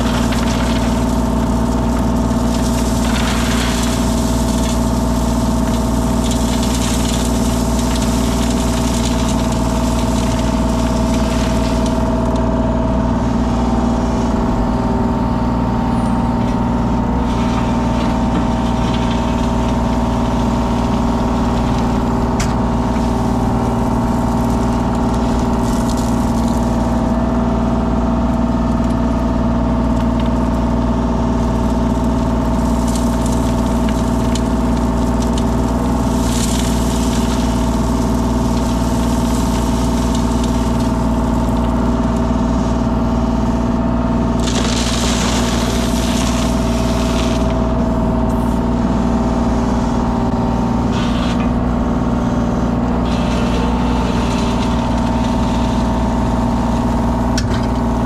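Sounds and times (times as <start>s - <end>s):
construction machine engine running: 0.0s - 58.0s.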